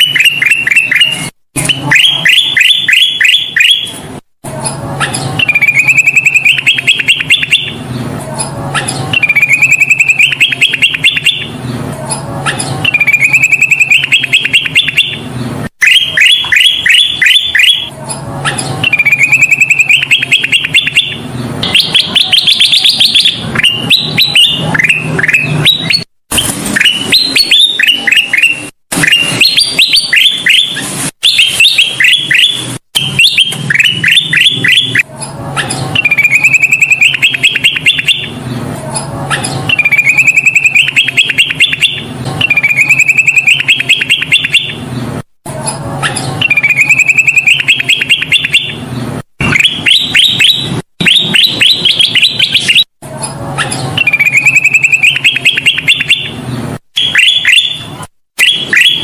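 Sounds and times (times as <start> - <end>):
bird song with rapid chirping: 0.0 - 4.0, 4.6 - 26.1, 26.8 - 45.1, 46.0 - 52.9, 53.6 - 59.0.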